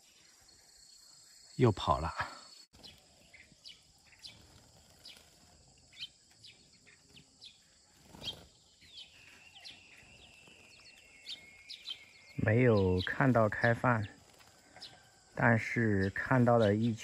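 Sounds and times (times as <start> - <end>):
sparrows chirping: 0.0 - 17.0.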